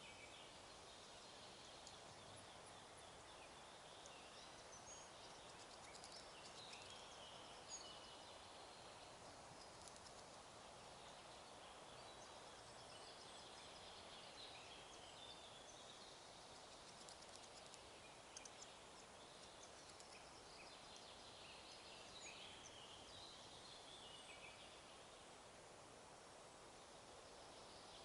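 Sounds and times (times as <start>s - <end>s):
distant small birds trilling: 0.0s - 28.0s
steady hiss: 0.0s - 28.0s.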